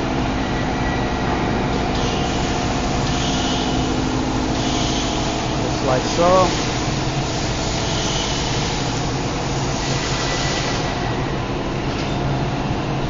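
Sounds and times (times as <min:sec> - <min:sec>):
shop machinery humming: 0:00.0 - 0:13.0.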